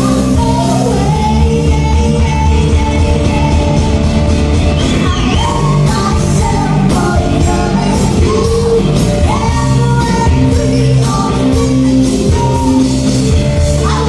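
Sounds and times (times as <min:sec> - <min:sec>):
person singing: 0:00.0 - 0:04.1, 0:04.8 - 0:14.0
drums beating: 0:00.0 - 0:14.0
live rock band: 0:00.0 - 0:14.0.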